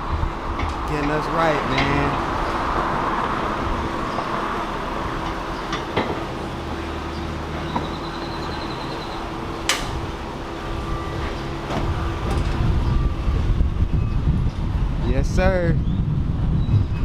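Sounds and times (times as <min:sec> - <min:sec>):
road and engine noise: 0:00.0 - 0:17.0.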